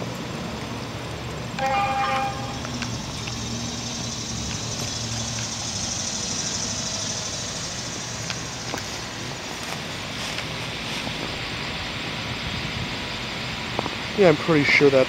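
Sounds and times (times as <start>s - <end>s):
heat pump hum: 0.0s - 15.0s.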